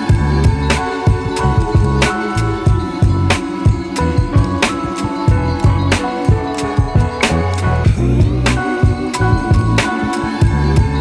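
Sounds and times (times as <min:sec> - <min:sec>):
pop music with drums and guitar: 0:00.0 - 0:11.0.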